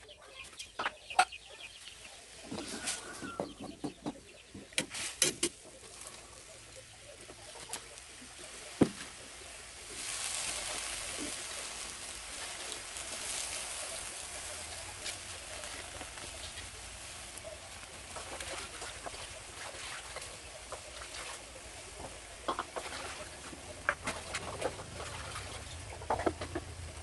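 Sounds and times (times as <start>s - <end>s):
vegetables sizzling in a wok: 4.6s - 27.0s.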